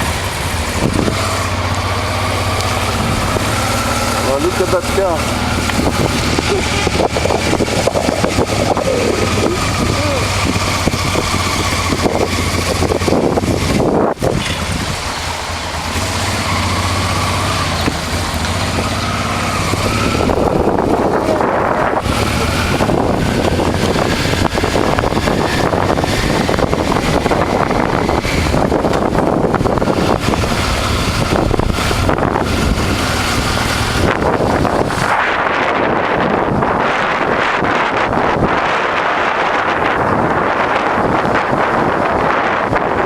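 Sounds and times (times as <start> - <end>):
motorcycle engine running: 0.0 - 43.0
wind rushing over microphone: 0.0 - 43.0.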